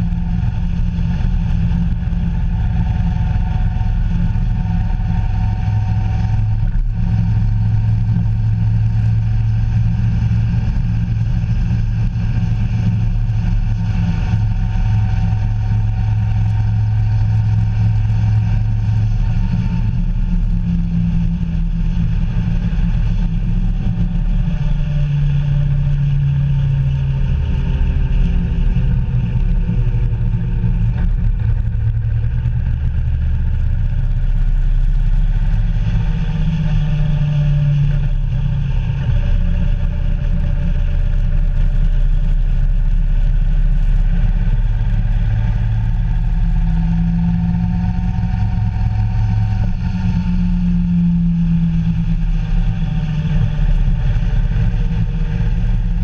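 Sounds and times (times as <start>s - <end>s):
vehicle engine running: 0.0s - 56.0s
wind and road noise: 0.0s - 56.0s.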